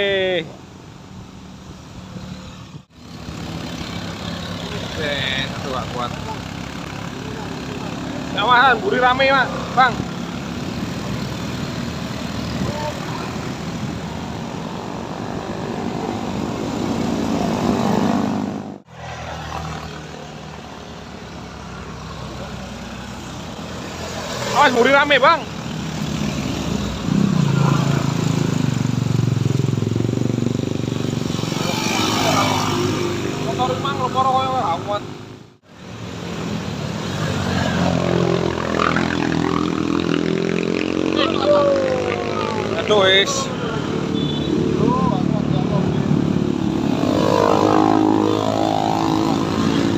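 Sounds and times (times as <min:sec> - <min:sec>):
vehicle engine labouring uphill: 0:01.4 - 0:49.9.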